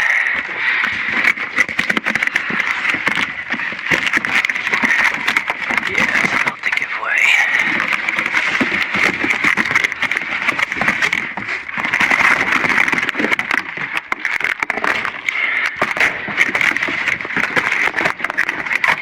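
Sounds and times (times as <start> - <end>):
debris crackling and knocking: 0.0 - 19.0.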